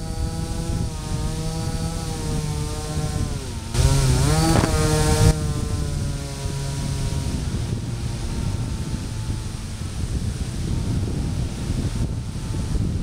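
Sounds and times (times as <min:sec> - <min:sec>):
electric motor and propeller whining: 0:00.0 - 0:13.0
wind noise: 0:00.0 - 0:13.0.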